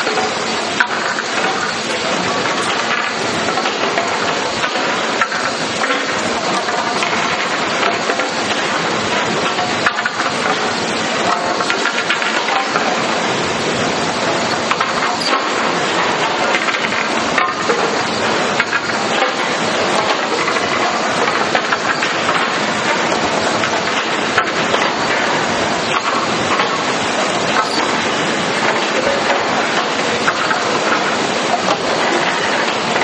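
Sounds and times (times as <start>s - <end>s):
wooden boards clacking and knocking: 0.0s - 33.0s.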